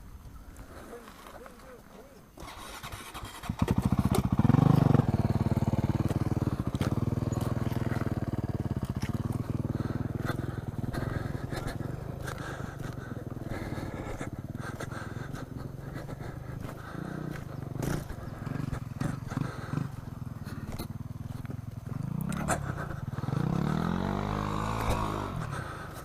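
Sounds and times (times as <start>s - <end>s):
dirt bike engine idling: 0.0s - 26.0s.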